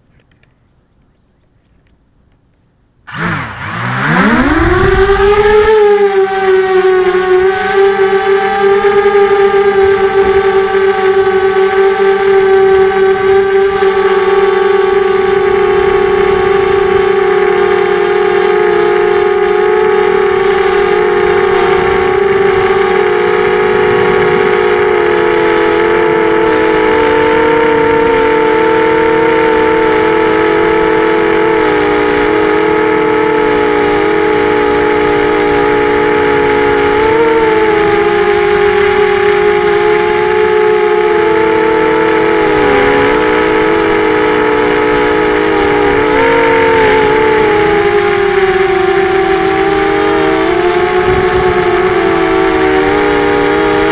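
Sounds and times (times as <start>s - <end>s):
drone motors whining: 3.1s - 53.9s.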